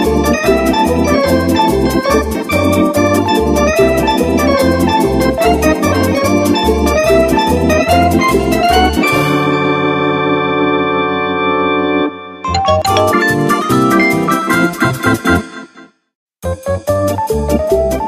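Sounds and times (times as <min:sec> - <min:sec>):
keyboard melody: 0:00.0 - 0:15.8.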